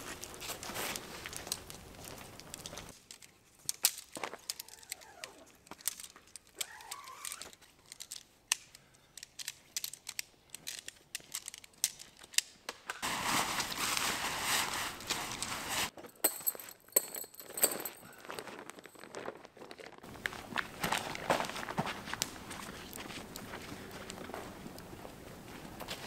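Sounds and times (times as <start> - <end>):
material crinkling and rustling: 0.0 - 8.5, 9.2 - 26.0.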